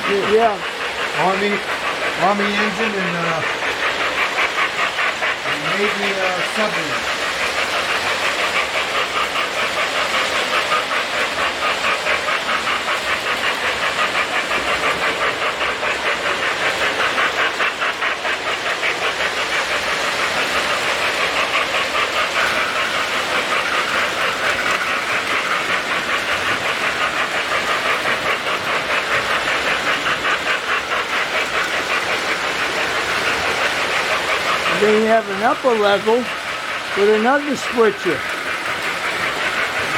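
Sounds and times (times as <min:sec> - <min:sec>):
model train wheels clattering: 0:00.0 - 0:39.9.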